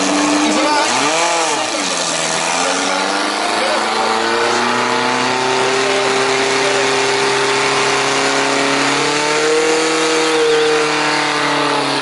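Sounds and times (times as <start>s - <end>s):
pump engine running at high revs: 0.0s - 12.0s.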